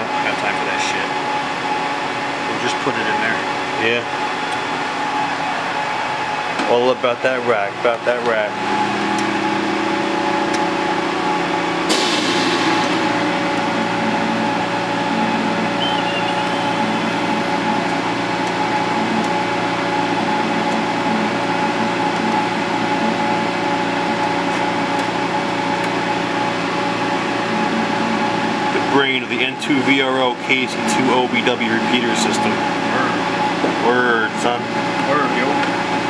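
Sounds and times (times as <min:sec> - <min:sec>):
hum and whir of fans: 0:00.0 - 0:36.0.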